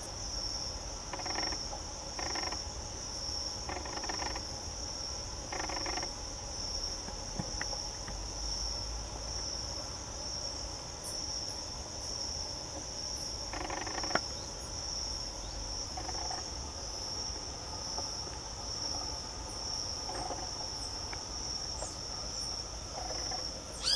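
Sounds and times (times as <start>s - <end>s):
high-pitched insect chorus: 0.0s - 23.9s.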